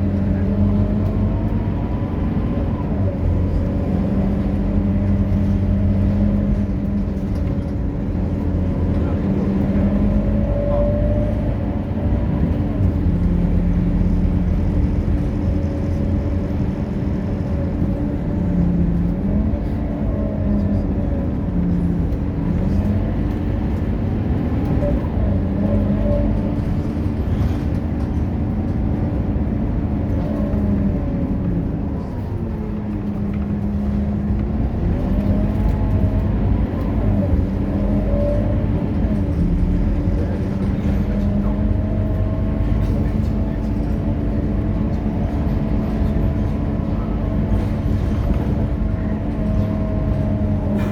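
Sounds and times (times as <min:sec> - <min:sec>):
bus diesel engine running: 0:00.0 - 0:50.9.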